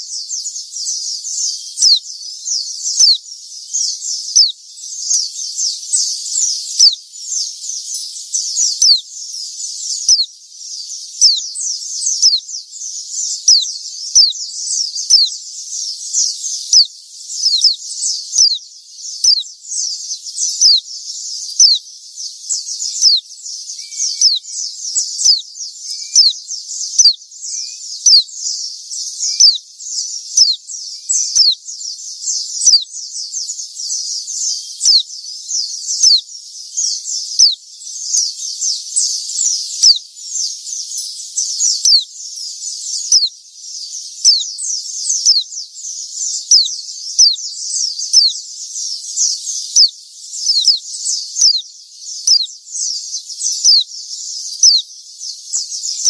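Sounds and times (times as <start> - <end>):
bird high chirps: 0.0 - 56.0.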